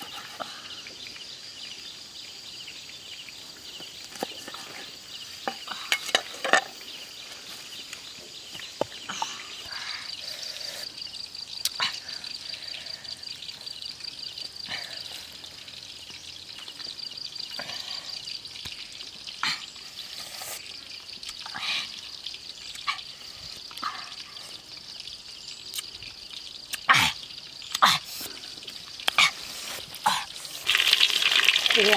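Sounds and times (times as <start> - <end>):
forest insects droning: 0.0 - 31.9.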